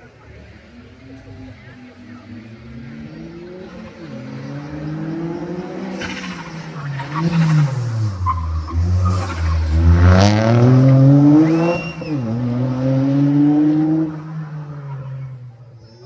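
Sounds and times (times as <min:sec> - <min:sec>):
rally car engine revving: 0:00.3 - 0:15.7
gear change: 0:02.0 - 0:15.6.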